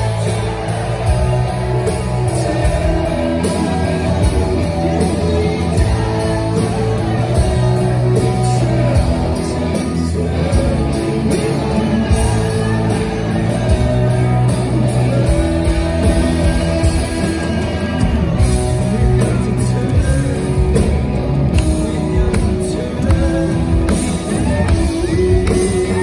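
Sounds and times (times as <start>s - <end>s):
live rock band playing: 0.0s - 26.0s
man singing lead: 0.0s - 26.0s.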